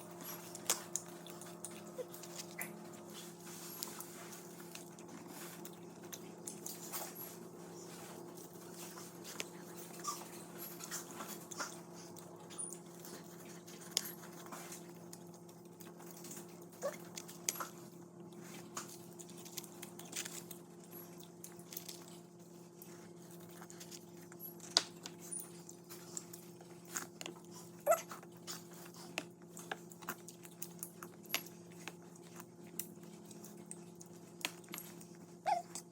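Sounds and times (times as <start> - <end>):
crunching of chewed vegetables: 0.0 - 35.9
low electrical hum: 0.0 - 35.9.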